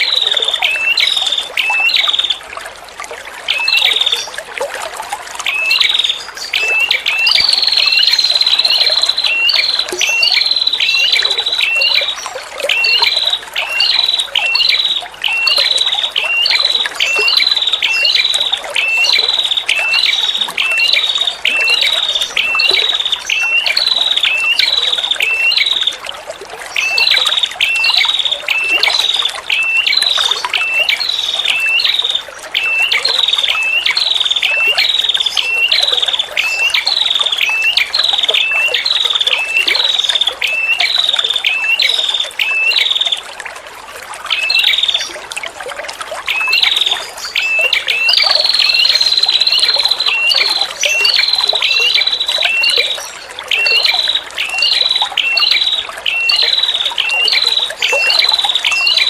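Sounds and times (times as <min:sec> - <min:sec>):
trickle of running water: 0:00.0 - 0:59.0.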